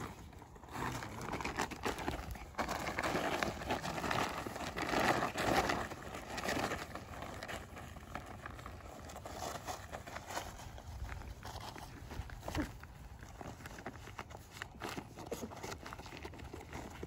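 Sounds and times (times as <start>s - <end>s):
plastic tarp crinkling: 0.0s - 17.0s.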